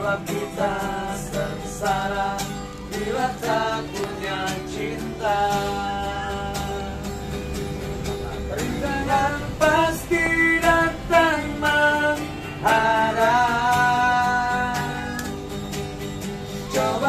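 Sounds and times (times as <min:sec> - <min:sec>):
man singing: 0:00.0 - 0:07.2, 0:08.2 - 0:15.4, 0:16.5 - 0:17.0
acoustic guitar strumming: 0:00.0 - 0:17.0.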